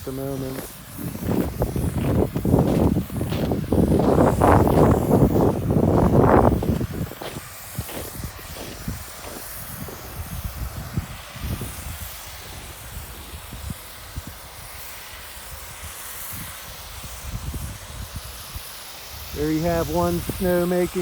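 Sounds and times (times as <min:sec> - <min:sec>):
wind buffeting microphone: 0:00.0 - 0:14.8, 0:15.6 - 0:21.0
snowmaking machine hissing: 0:00.0 - 0:21.0.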